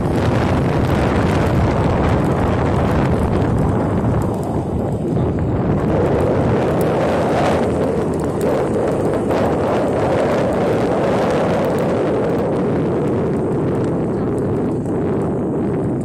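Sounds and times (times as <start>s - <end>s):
road noise: 0.0s - 16.0s
vehicle engine: 0.0s - 16.0s
wind buffeting microphone: 0.0s - 16.0s.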